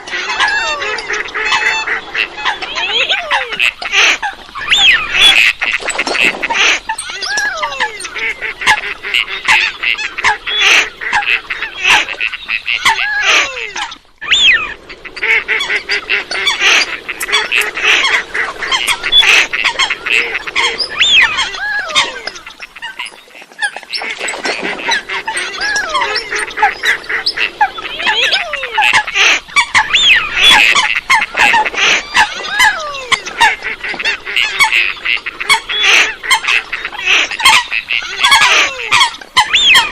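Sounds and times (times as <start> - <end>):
coots calling and squawking: 0.0 - 39.9.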